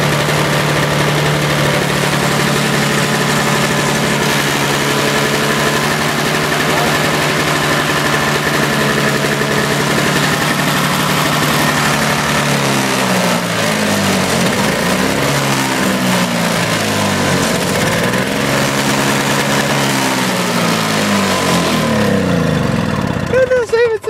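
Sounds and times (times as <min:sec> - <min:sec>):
snowblower engine surging: 0:00.0 - 0:24.0.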